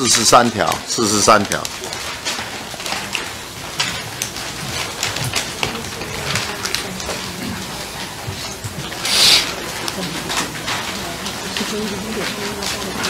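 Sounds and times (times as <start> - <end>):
papers rustling: 0.0 - 13.0.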